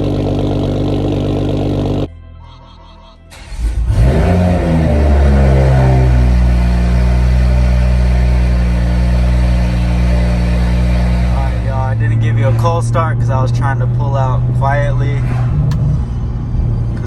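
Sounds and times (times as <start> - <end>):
car engine cold start and idle: 0.0 - 2.1, 3.2 - 17.0.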